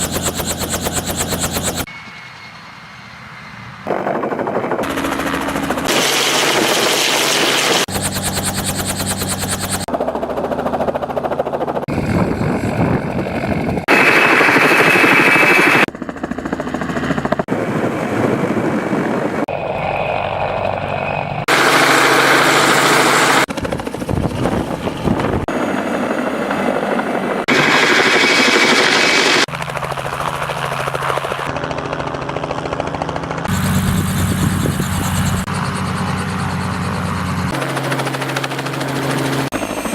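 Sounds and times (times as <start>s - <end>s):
helicopter noise: 0.0s - 39.9s.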